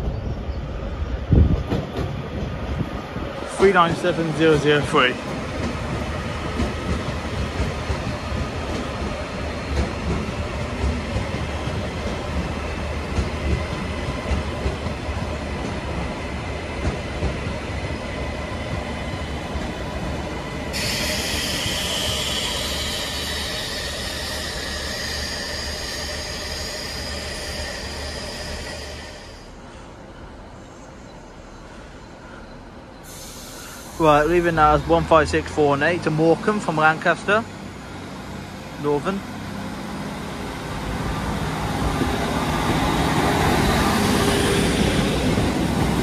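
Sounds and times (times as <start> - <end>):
train rumbling and braking: 0.0 - 46.0.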